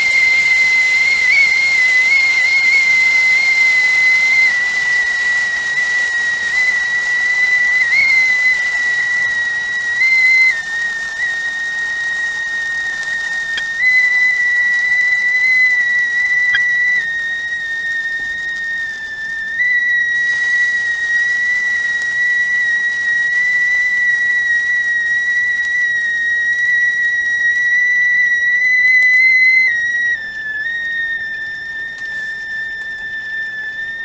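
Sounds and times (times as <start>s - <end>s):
faint hiss of steam: 0.0s - 34.0s
kettle whistling: 0.0s - 34.0s.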